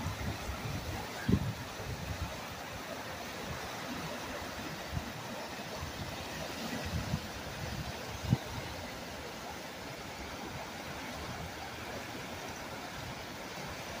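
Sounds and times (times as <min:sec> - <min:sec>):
fast-flowing river rushing: 0:00.0 - 0:14.0.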